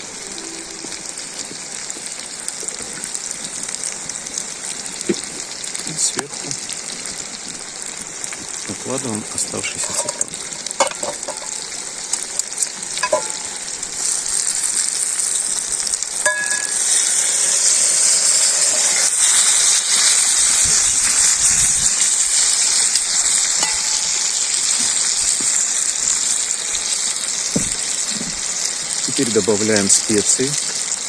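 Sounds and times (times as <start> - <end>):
food sizzling in a pot: 0.0 - 31.0.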